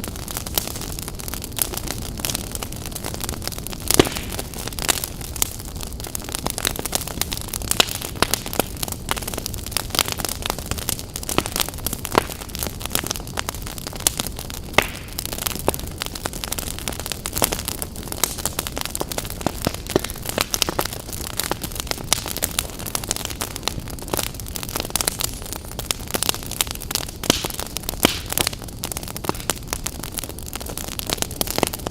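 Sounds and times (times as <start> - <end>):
campfire crackling and popping: 0.0 - 31.9
flames rumbling and hissing: 0.0 - 31.9.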